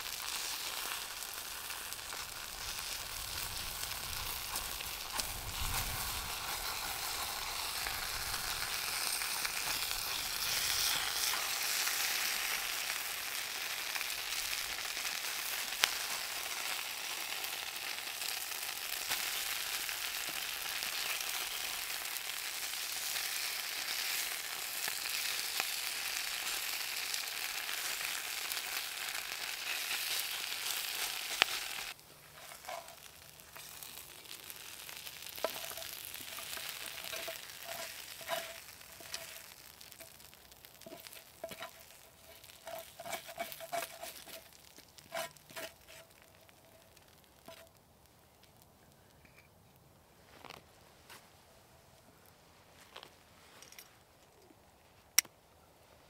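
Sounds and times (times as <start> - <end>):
food sizzling in a pan: 0.0 - 47.6.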